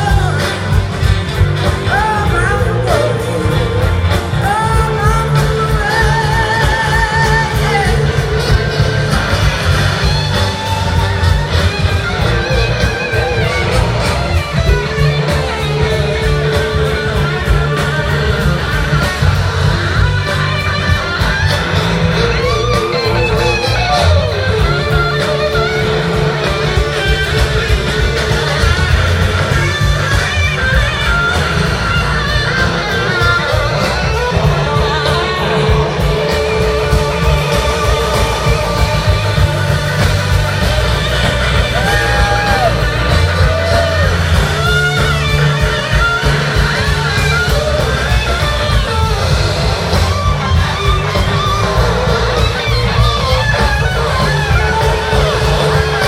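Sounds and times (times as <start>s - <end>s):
electric guitar lead: 0.0s - 56.0s
rock band playing: 0.0s - 56.0s.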